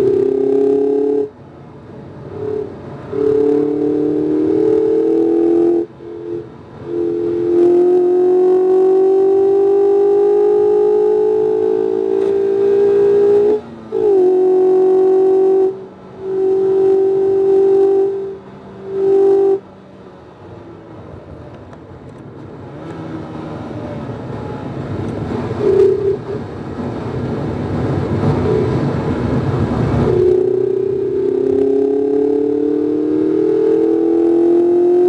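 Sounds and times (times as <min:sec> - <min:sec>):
car engine accelerating: 0:00.0 - 0:35.0
road noise: 0:00.0 - 0:35.0.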